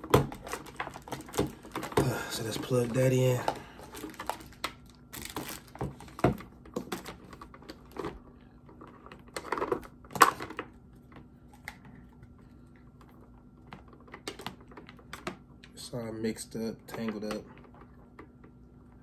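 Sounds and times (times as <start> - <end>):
cords and plastic adapter rustling: 0.0 - 15.8.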